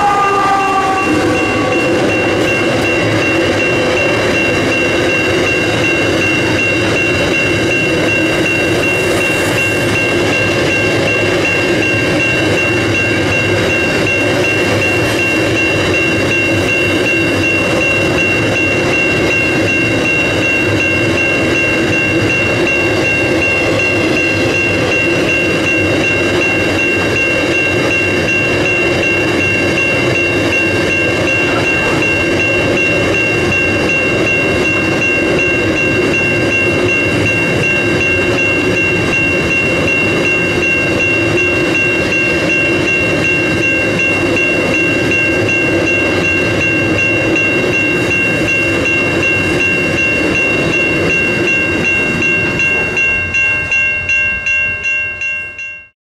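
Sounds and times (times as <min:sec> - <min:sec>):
level crossing bell ringing: 0:00.0 - 0:55.9.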